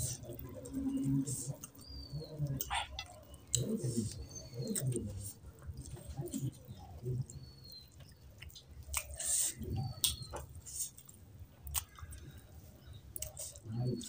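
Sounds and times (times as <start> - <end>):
chewing: 0.0 - 14.0
fingers squishing rice and gravy: 0.0 - 14.0.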